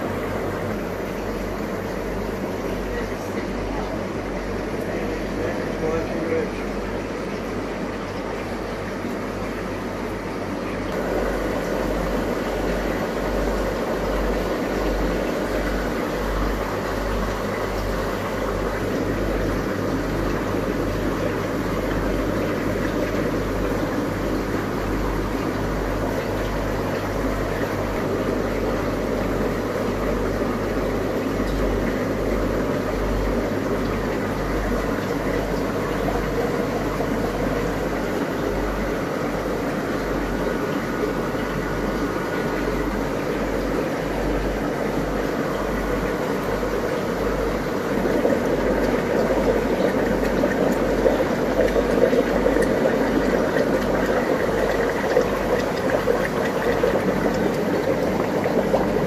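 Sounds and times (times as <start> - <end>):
aquarium air pumps bubbling: 0.0 - 59.0
low even hum: 0.0 - 59.0.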